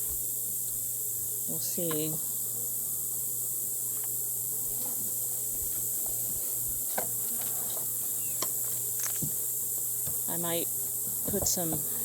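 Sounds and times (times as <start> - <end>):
high-pitched hiss: 0.0 - 4.5, 5.4 - 12.0
honeybees buzzing: 0.0 - 12.0.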